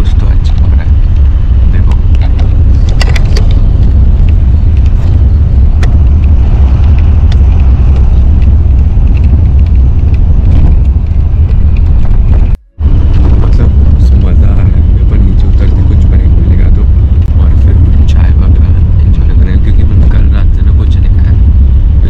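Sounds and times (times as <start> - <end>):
bus engine rumble: 0.0 - 22.0
road noise inside cabin: 0.0 - 22.0.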